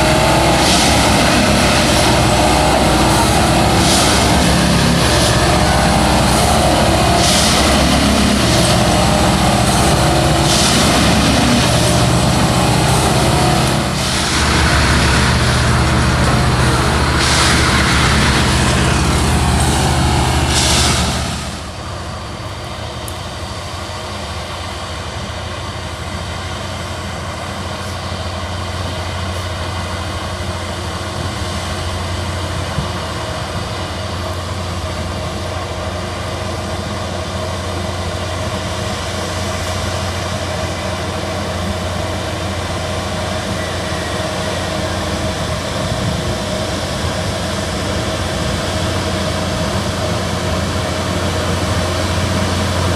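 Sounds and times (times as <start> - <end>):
diesel engine running: 0.0 - 52.9
high whine: 0.0 - 52.9
loud rushing noise: 0.0 - 52.9.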